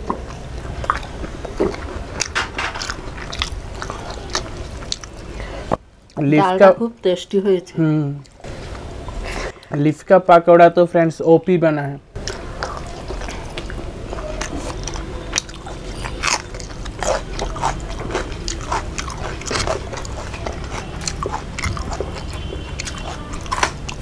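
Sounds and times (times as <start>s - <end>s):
people chewing food: 0.0s - 6.6s, 8.2s - 9.9s, 12.1s - 24.0s.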